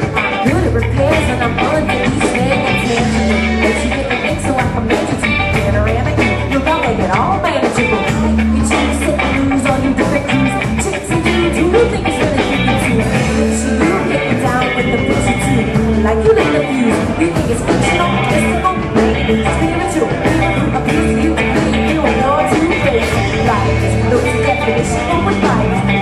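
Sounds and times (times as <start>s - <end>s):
live rock band playing: 0.0s - 26.0s
person singing: 0.0s - 26.0s.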